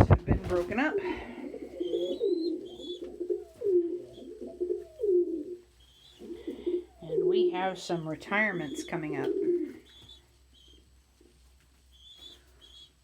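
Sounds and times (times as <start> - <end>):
pigeons cooing: 0.0 - 10.8.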